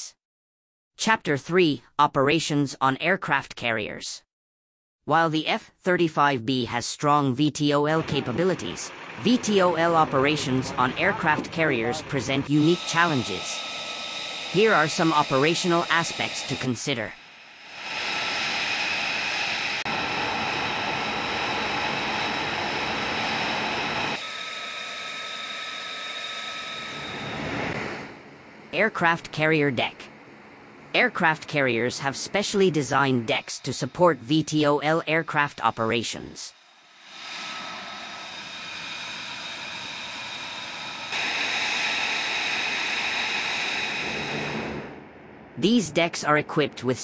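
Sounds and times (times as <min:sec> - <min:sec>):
jet engine running: 0:07.8 - 0:35.7, 0:36.8 - 0:47.0.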